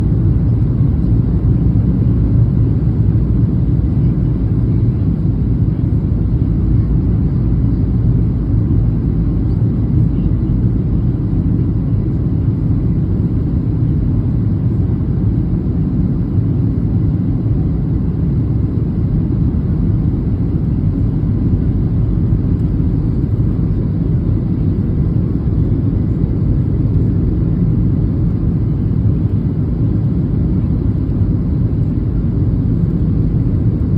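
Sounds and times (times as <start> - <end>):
airliner engines rumbling in cabin: 0.0 - 33.9.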